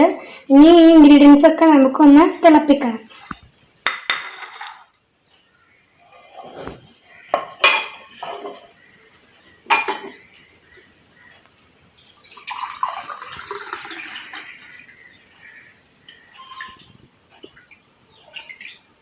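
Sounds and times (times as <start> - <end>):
continuous noise: 0.0 - 19.0.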